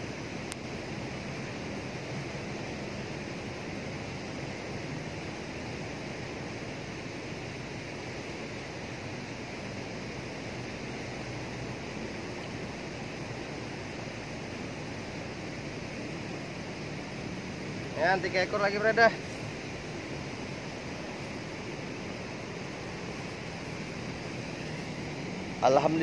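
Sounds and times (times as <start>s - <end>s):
water rushing through sluice: 0.0s - 26.0s.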